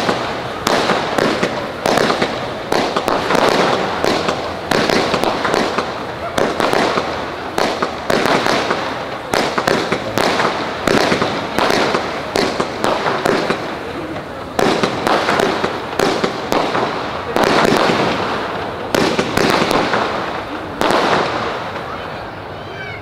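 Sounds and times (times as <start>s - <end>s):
firework shells bursting: 0.0s - 21.9s
firework crackling: 0.0s - 23.0s.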